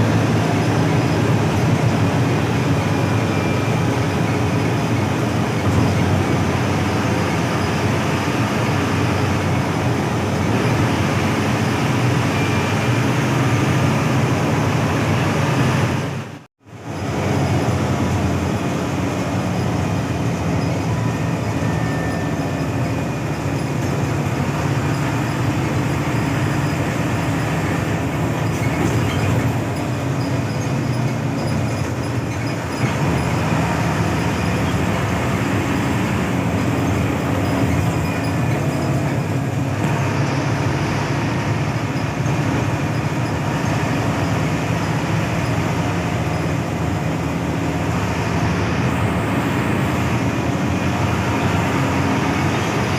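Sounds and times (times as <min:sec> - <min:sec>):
bus engine drone: 0:00.0 - 0:52.9
tyre and road noise: 0:00.0 - 0:52.9.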